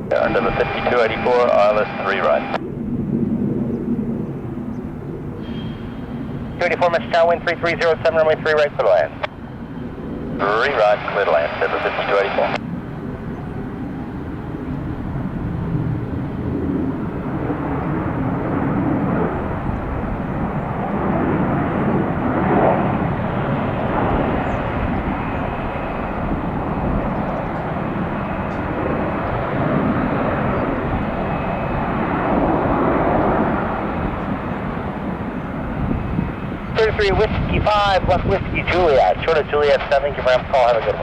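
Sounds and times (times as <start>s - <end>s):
jet engines rushing: 0.0s - 41.0s.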